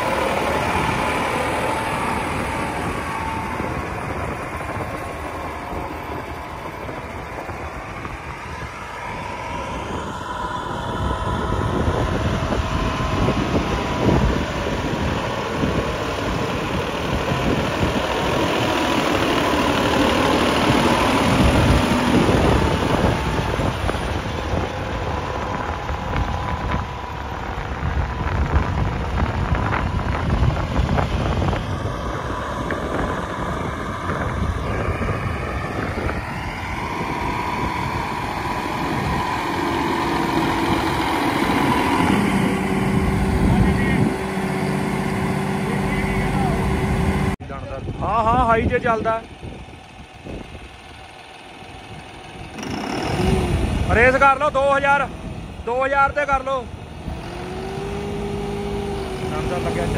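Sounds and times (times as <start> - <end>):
tractor engine under load: 0.0 - 59.9.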